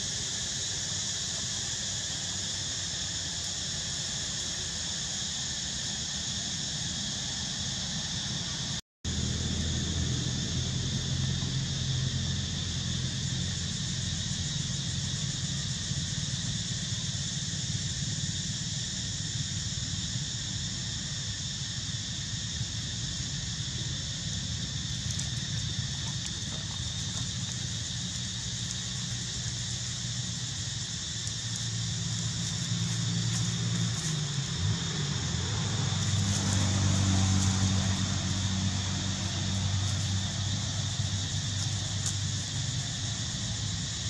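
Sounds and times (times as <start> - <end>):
high-pitched insect chorus: 0.0 - 44.0.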